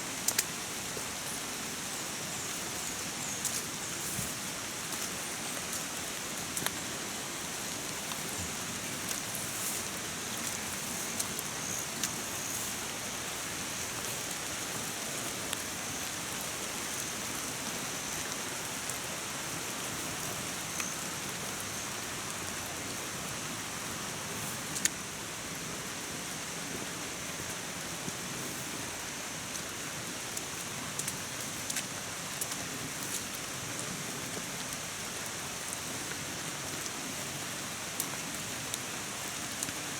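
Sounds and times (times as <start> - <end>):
rain falling on water: 0.0 - 39.9.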